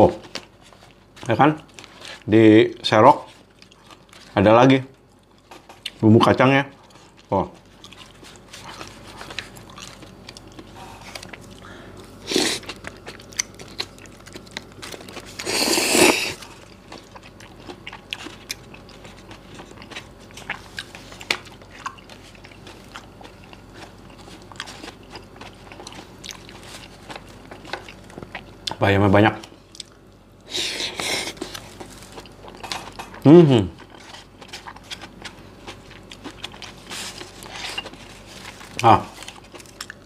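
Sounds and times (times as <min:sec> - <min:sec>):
person chewing and crunching: 0:00.0 - 0:04.4, 0:05.0 - 0:28.8, 0:29.4 - 0:40.0.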